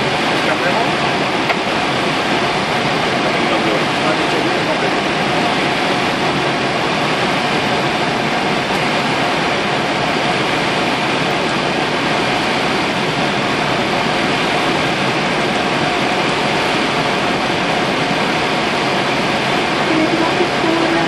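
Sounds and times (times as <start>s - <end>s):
cockpit roar of airflow and engines: 0.0s - 21.0s.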